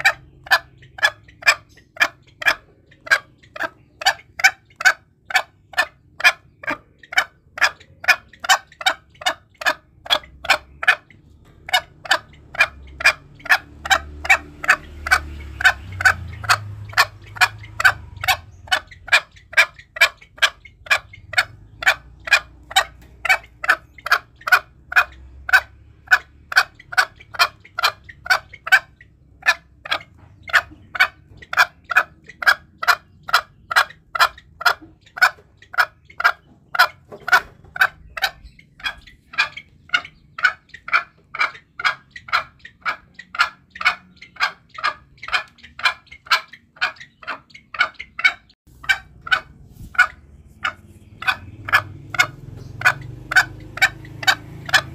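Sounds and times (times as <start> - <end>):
junglefowl calling sharp notes: 0.0 - 54.9.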